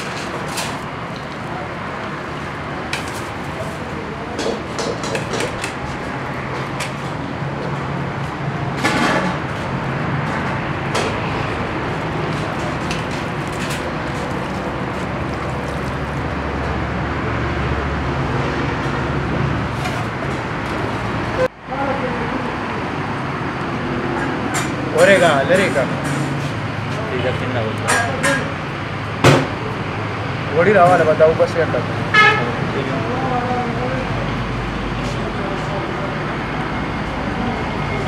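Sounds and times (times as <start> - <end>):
heavy vehicle rumble: 0.0 - 38.0
road traffic noise: 0.0 - 38.0.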